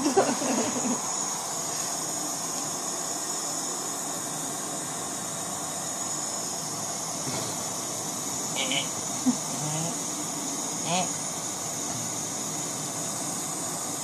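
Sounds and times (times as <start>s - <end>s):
gas stove burner hissing: 0.0s - 14.0s.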